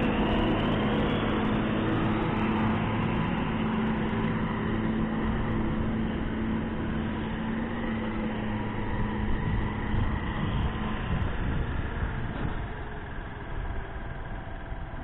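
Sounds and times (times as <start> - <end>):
motorcycle engine cruising: 0.0 - 15.0
road noise: 0.0 - 15.0
wind noise: 0.0 - 15.0.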